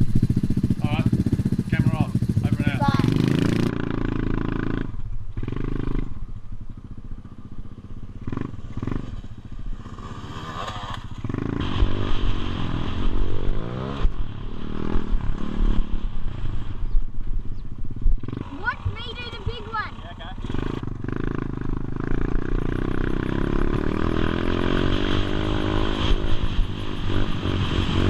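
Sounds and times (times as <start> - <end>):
motorbike engine revving: 0.0 - 6.3, 7.0 - 17.1, 17.8 - 28.0.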